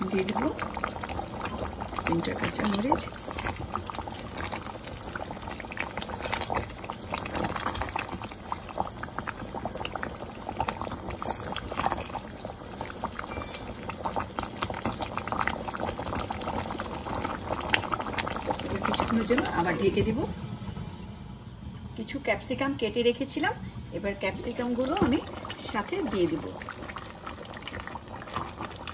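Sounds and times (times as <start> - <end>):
gravy bubbling at a boil: 0.0 - 28.9.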